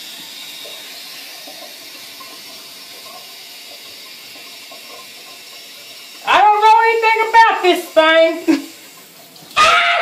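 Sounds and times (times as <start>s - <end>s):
bidet water spray hissing: 0.0s - 10.0s.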